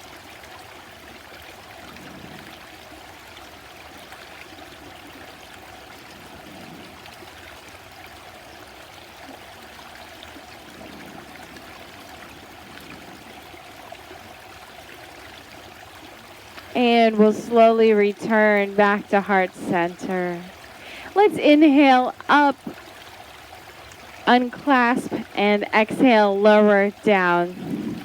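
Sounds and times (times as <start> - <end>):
stream flowing and burbling: 0.0 - 28.0.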